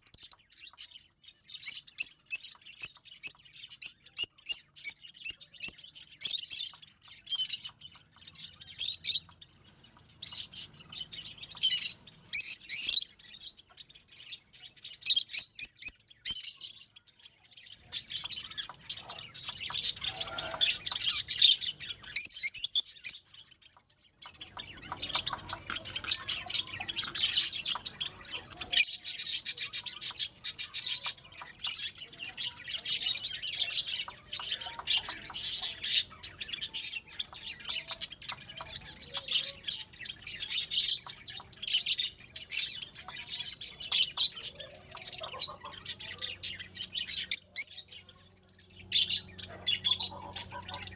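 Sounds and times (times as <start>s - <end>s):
lovebirds chirping and squawking: 0.0s - 50.9s.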